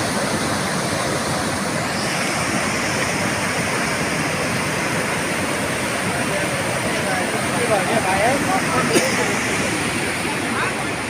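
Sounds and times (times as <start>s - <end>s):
fast-running river water rushing: 0.0s - 11.0s.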